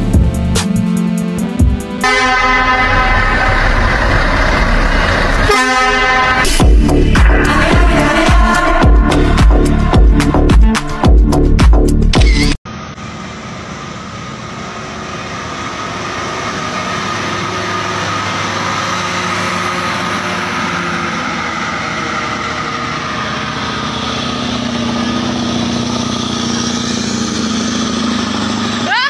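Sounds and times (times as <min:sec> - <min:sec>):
diesel truck engine passing: 0:00.0 - 0:11.6, 0:12.7 - 0:29.0.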